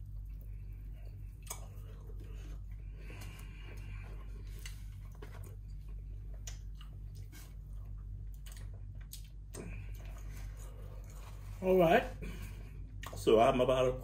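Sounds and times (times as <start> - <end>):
chewing and wet mouth sounds: 0.0 - 11.6, 12.4 - 13.3
steady low hum: 0.0 - 14.0.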